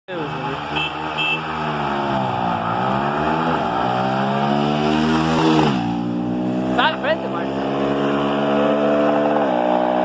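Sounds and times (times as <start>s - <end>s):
motorcycles accelerating: 0.1s - 10.0s.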